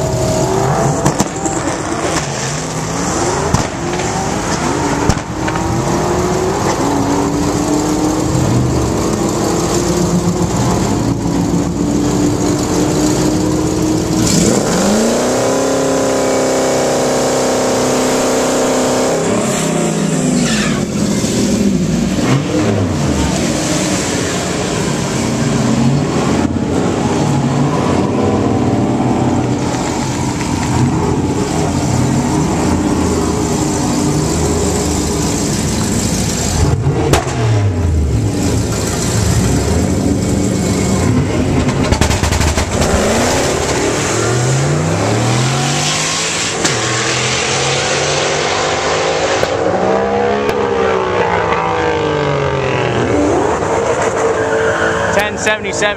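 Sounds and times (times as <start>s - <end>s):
engine accelerating through gears: 0.0s - 54.3s
engines revving hard: 0.0s - 55.9s.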